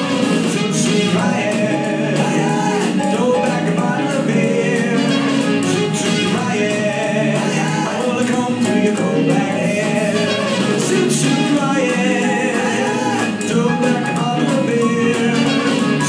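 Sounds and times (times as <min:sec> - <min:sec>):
gospel choir singing: 0:00.0 - 0:16.0.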